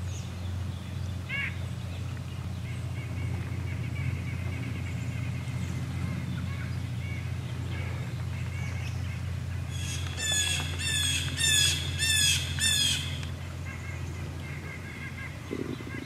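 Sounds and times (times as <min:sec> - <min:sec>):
steady low hum: 0:00.0 - 0:16.0
bird squawking calls: 0:00.8 - 0:16.0.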